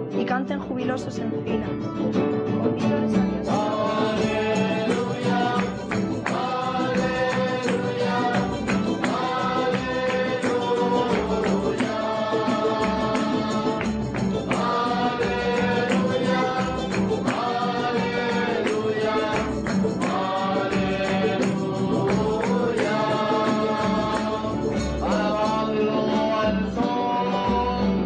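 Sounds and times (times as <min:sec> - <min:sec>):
strummed acoustic guitars: 0:00.0 - 0:28.0
tambourine shaken: 0:03.4 - 0:26.3
group singing a hymn in unison: 0:03.4 - 0:28.0.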